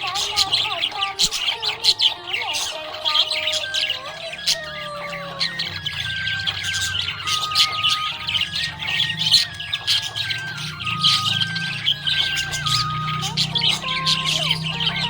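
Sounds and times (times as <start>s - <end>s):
background music melody: 0.0s - 15.0s
budgerigars chirping and squawking: 0.0s - 15.0s.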